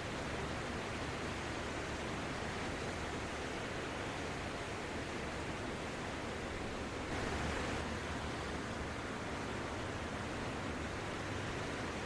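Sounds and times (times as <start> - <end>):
waves washing onto sand: 0.0 - 12.0.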